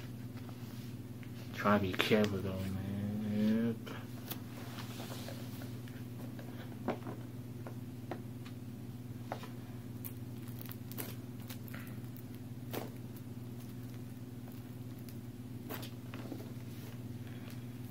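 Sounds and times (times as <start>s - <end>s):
low electrical hum: 0.0s - 17.9s.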